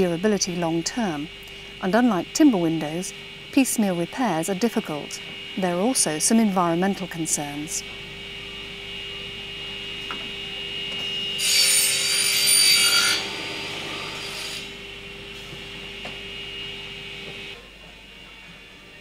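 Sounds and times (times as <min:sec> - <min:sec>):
mitre saw humming: 0:00.0 - 0:18.4.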